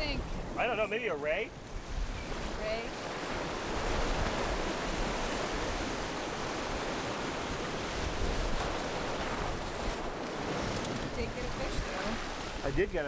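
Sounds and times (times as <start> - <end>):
wind on microphone: 1.6 - 13.0
surf breaking on rocks: 2.4 - 13.0.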